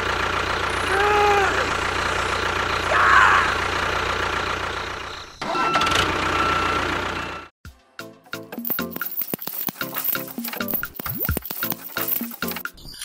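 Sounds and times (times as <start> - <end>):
tractor engine running: 0.0 - 7.5, 8.5 - 12.7.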